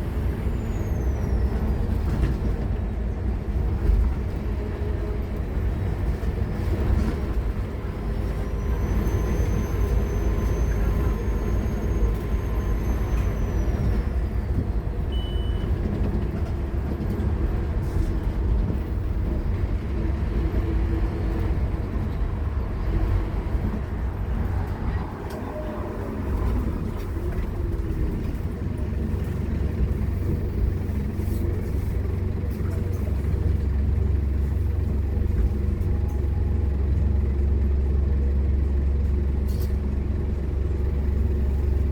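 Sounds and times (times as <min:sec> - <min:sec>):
bus diesel engine drone: 0:00.0 - 0:41.9.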